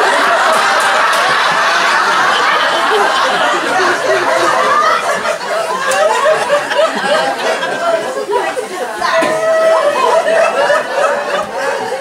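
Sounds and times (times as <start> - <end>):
audience chattering: 0.0 - 12.0
audience laughing: 0.0 - 12.0.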